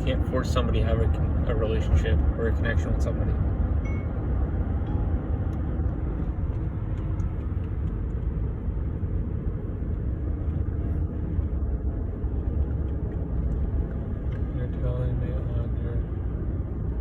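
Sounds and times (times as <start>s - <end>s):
truck cabin road rumble: 0.0s - 17.0s.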